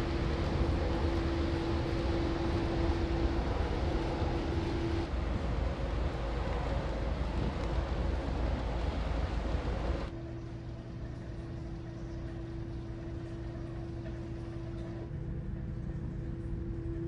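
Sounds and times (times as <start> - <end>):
ferry machinery humming: 0.0 - 15.1
wind on open deck: 0.0 - 17.0.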